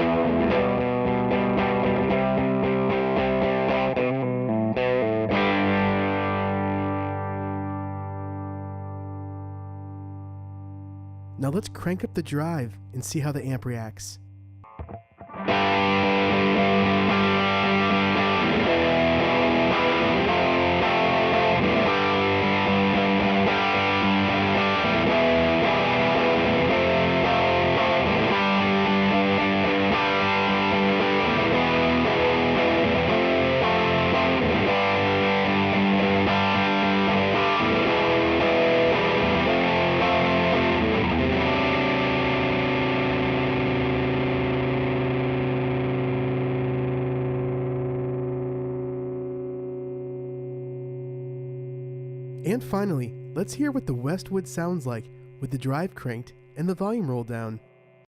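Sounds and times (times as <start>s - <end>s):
overdriven electric guitar chords: 0.0s - 58.0s.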